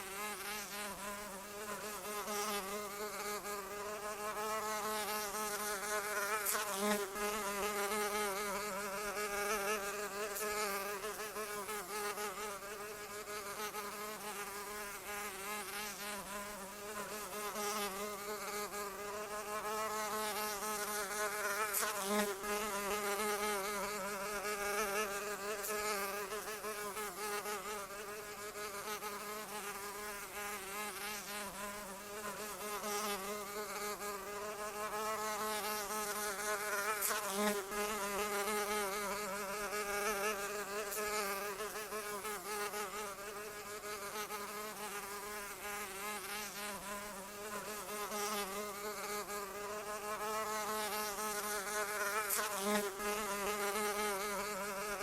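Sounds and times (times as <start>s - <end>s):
fly buzzing: 0.0s - 55.0s.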